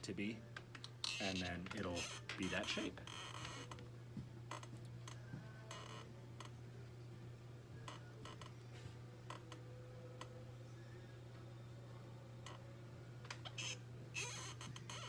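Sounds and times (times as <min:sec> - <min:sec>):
potter's wheel humming: 0:00.0 - 0:15.0.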